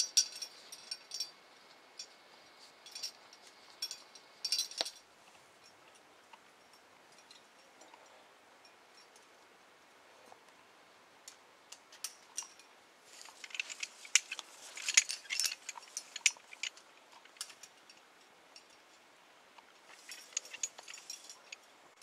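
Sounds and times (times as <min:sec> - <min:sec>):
metal climbing gear clinking: 0:00.0 - 0:09.4, 0:11.7 - 0:22.0.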